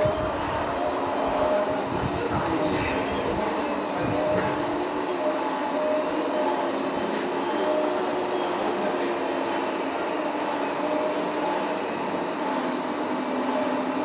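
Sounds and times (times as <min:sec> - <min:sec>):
model excavator motors whining: 0:00.0 - 0:14.0.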